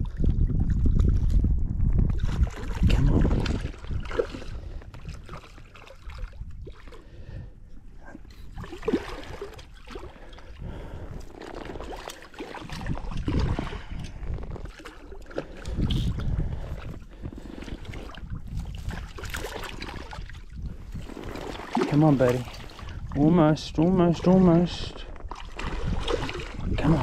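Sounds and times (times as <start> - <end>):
water lapping: 2.1 - 27.0.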